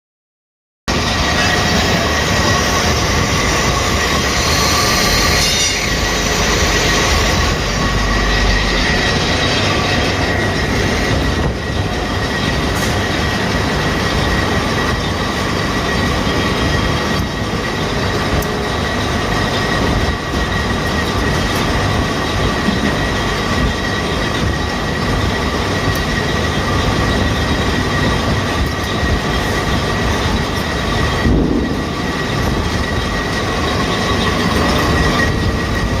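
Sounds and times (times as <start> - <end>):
conveyor belt metallic clatter: 0.9 - 36.0
steady high squeal: 0.9 - 36.0.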